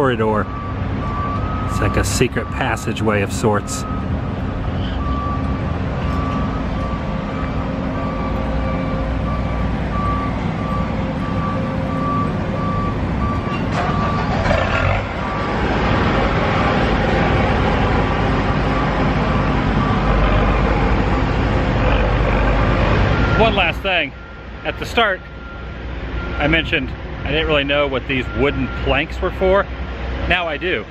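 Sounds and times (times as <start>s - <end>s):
vehicle backup alarm beeping: 0.0s - 29.6s
rumble of engines and traffic: 0.0s - 30.9s.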